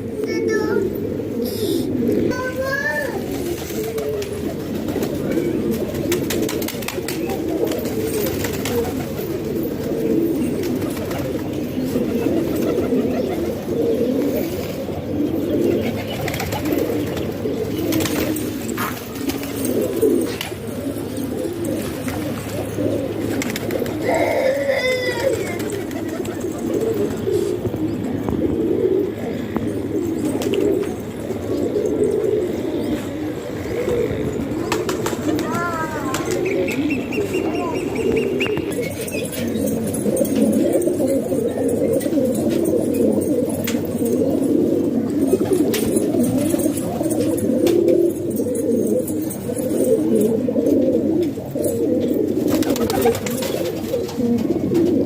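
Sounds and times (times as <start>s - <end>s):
higher-pitched pigeon call: 0.0s - 55.0s
pigeons cooing: 0.0s - 55.0s.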